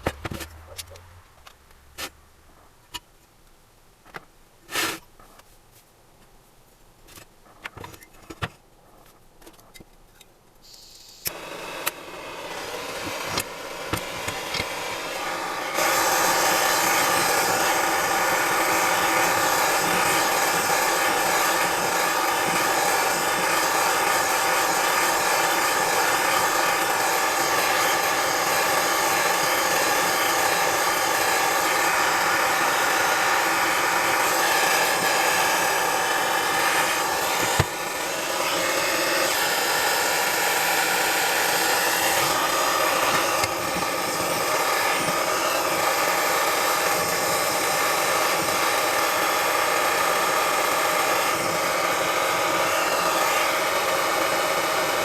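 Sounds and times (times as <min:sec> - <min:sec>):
power tool whirring: 0:10.7 - 0:55.0.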